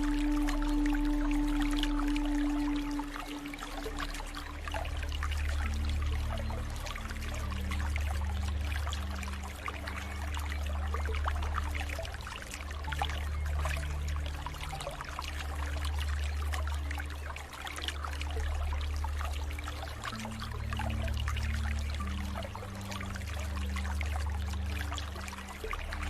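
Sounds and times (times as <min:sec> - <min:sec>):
floodwater flowing: 0:00.0 - 0:26.0.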